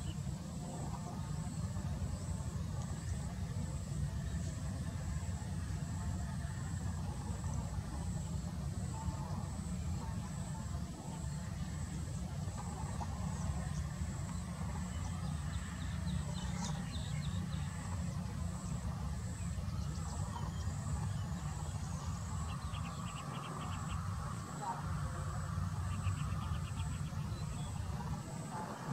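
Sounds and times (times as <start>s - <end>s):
high insect whine: 0.0s - 28.9s.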